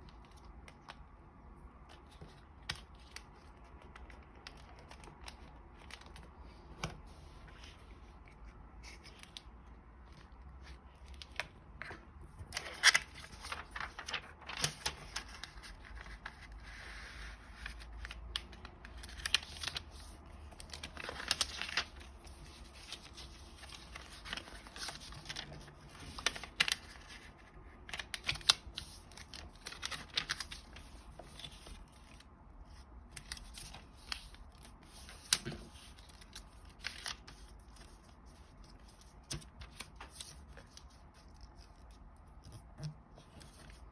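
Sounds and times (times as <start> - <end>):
paper rustling and crinkling: 1.8 - 43.9.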